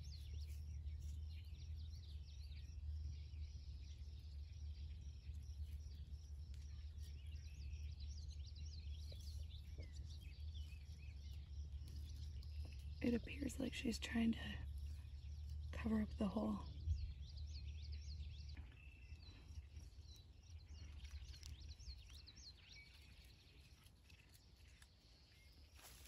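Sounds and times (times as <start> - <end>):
low rumble: 0.0 - 21.8
small birds chirping and trilling: 0.0 - 26.0.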